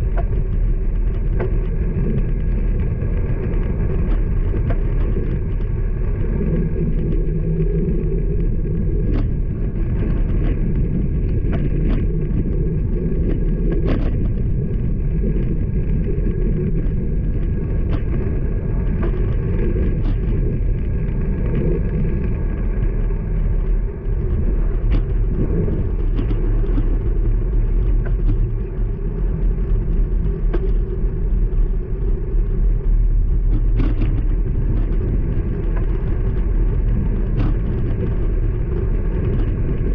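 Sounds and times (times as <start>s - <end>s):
wind rumble: 0.0s - 39.9s.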